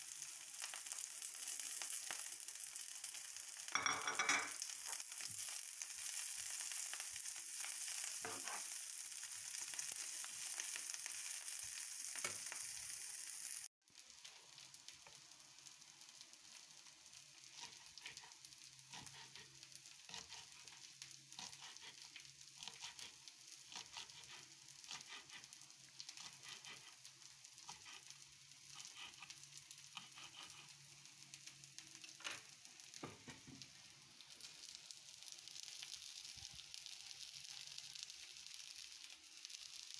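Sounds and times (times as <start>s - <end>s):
greens sizzling in a pan: 0.0s - 39.9s.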